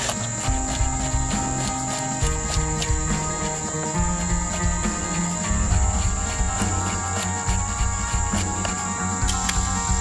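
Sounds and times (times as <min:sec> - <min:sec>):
background music: 0:00.0 - 0:10.0
insects chirring: 0:00.0 - 0:10.0.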